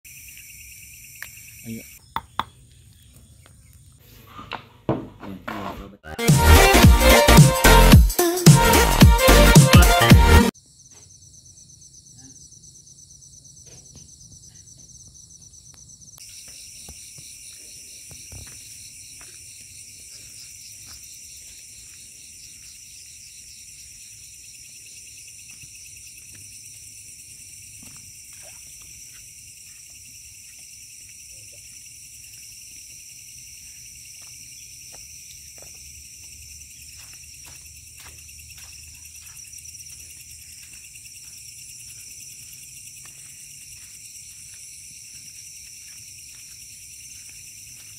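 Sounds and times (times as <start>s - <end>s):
crickets and insects trilling: 0.0s - 4.2s, 10.5s - 47.9s.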